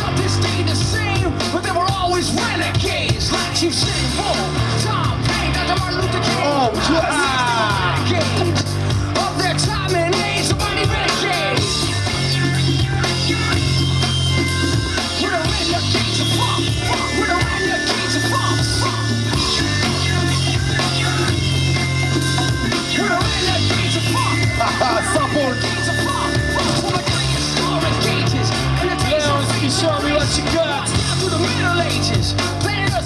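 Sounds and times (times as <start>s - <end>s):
heavy bass line: 0.0s - 33.0s
loud music with singing: 0.0s - 33.0s.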